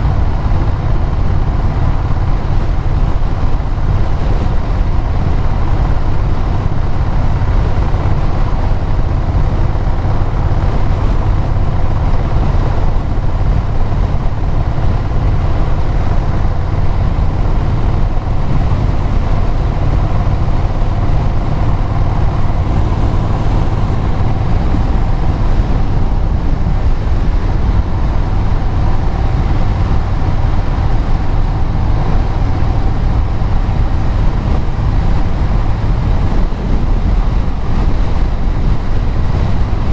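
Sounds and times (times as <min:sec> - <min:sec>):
road and wind noise: 0:00.0 - 0:39.9
vehicle engine and exhaust cruising: 0:00.0 - 0:39.9.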